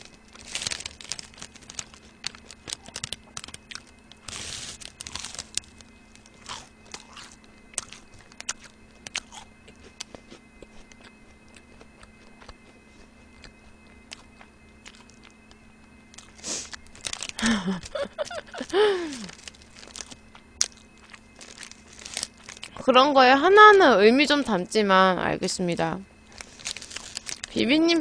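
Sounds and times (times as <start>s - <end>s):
crunchy chewing: 0.0s - 22.8s, 26.2s - 27.6s.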